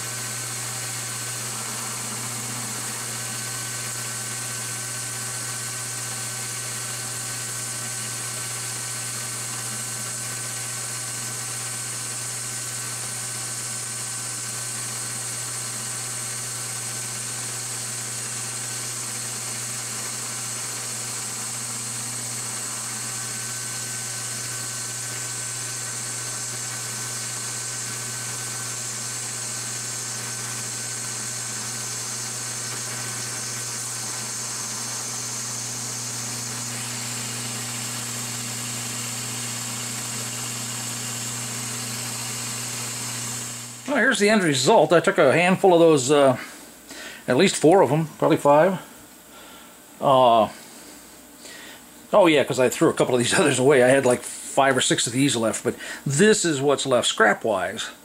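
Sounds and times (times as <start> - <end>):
metal lathe cutting metal: 0.0 - 46.2, 52.2 - 57.8.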